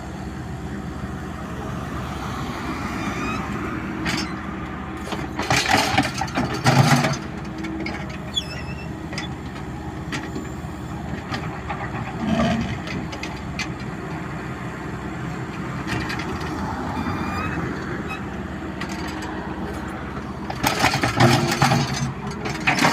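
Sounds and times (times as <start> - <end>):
heavy engine running: 0.0 - 22.9.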